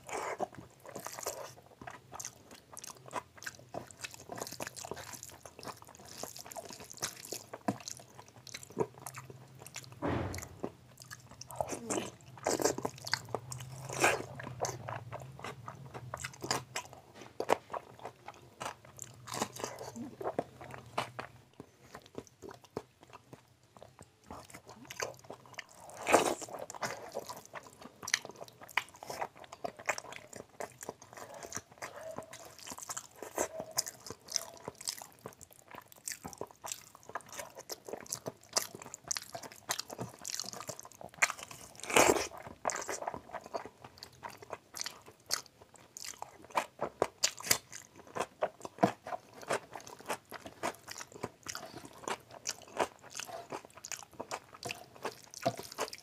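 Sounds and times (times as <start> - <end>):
wet squish of rice mixing: 0.0 - 22.8, 24.2 - 56.0
man chewing and lip smacking: 0.0 - 56.0.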